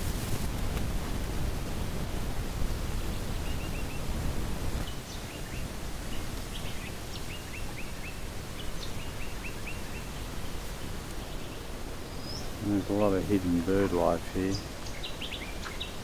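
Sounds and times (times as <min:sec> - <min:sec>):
low background noise: 0:00.0 - 0:16.0
small birds chirping: 0:02.6 - 0:04.2, 0:04.8 - 0:16.0.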